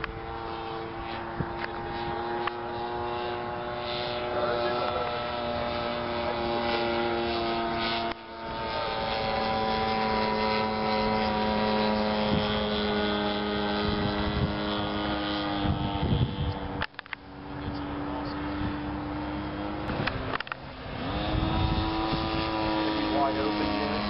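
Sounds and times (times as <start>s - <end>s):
model airplane engine droning: 0.0s - 24.0s.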